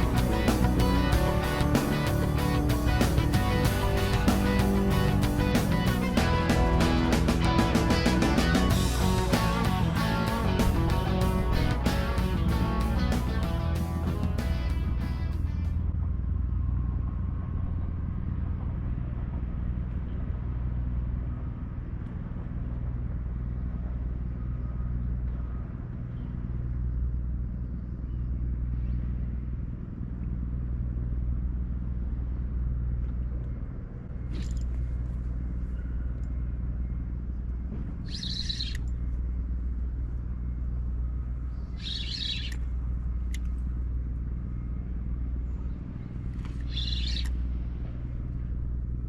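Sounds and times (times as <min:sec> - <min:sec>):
engine rumble with droning hum: 0:00.0 - 0:49.0.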